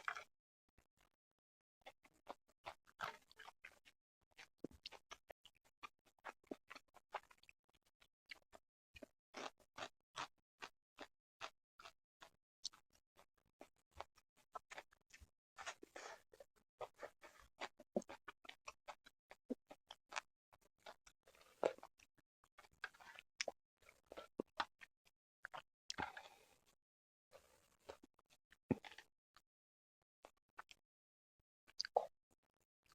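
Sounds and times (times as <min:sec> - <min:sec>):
mouth chewing clicks and smacks: 0:00.0 - 0:00.3, 0:01.8 - 0:26.4, 0:27.3 - 0:29.1, 0:31.7 - 0:32.2.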